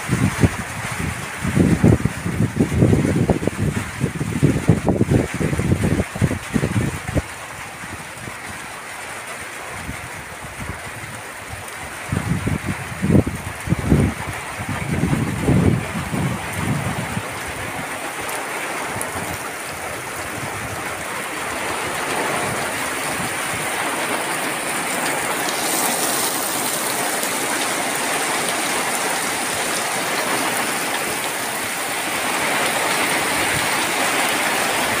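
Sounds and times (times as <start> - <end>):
heavy rain on water and plants: 0.0 - 35.0.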